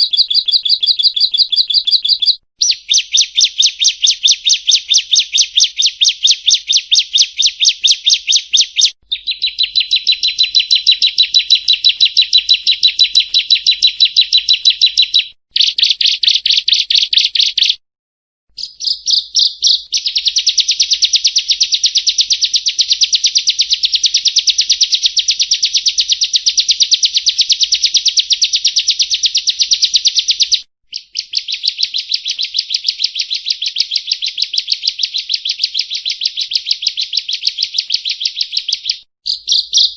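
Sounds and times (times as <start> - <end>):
bird calling high-pitched chips: 0.0 - 17.8, 18.5 - 39.9.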